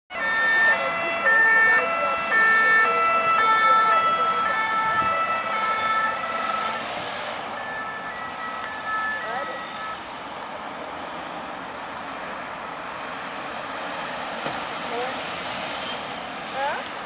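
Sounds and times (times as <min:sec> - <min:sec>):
ambulance siren: 0:00.1 - 0:15.2.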